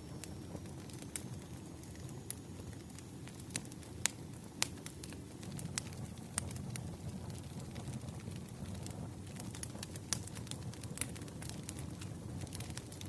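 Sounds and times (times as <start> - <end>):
low rumble of burning logs: 0.0 - 13.0
wood fire popping and snapping: 0.0 - 13.0.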